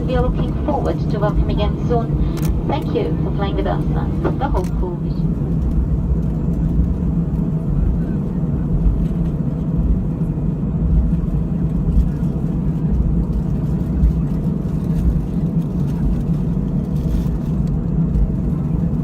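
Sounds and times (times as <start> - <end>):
jet engines idling: 0.0 - 19.0.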